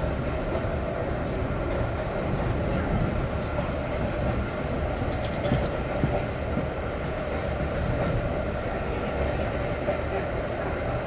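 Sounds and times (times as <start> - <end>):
rail clicks: 0.0 - 11.0
train rumbling on rails: 0.0 - 11.0.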